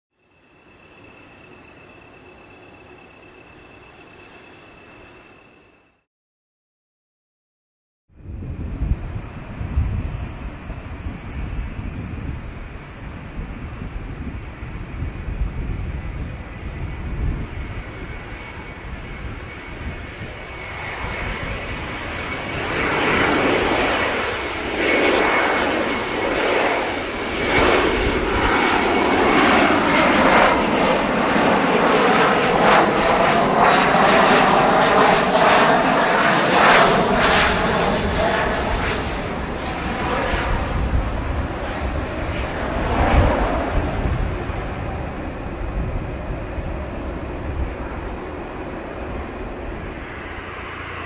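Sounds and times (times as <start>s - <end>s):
jet engine whine gliding in pitch: 0.2s - 6.0s, 8.1s - 51.0s
jet engines roaring: 8.2s - 51.0s.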